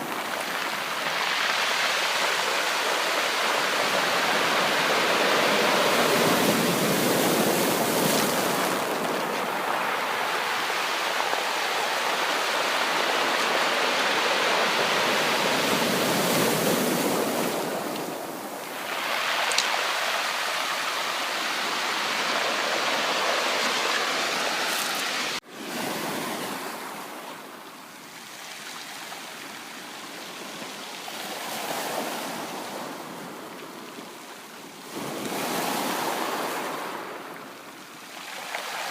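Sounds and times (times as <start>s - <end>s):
sea waves washing onto shore: 0.0s - 27.2s, 34.8s - 38.9s.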